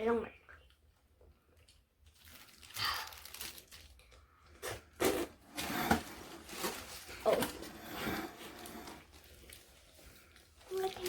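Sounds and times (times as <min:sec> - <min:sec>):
plastic crinkling and tearing: 0:01.6 - 0:11.0.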